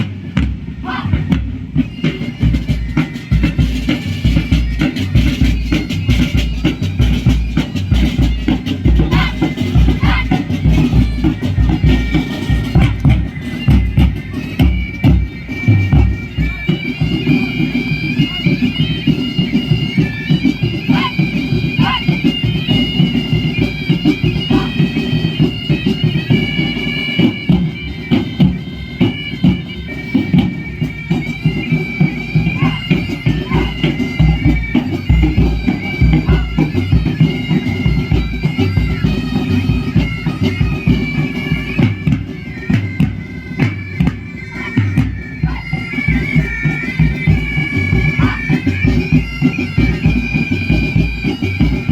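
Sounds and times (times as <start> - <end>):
steady drum beat: 0.0 - 51.9
bagpipes playing: 1.7 - 51.9.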